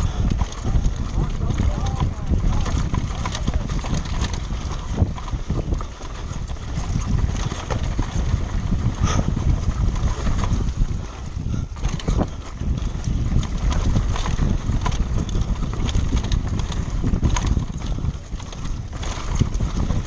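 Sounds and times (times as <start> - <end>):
mountain bike rattling over rocks: 0.0 - 20.0
wind noise on microphone: 0.0 - 20.0.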